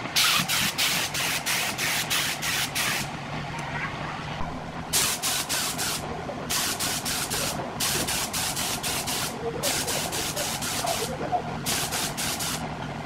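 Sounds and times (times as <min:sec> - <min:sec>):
steady low hum: 0:00.0 - 0:13.0
paint spray gun hissing: 0:00.2 - 0:03.1, 0:04.9 - 0:12.6.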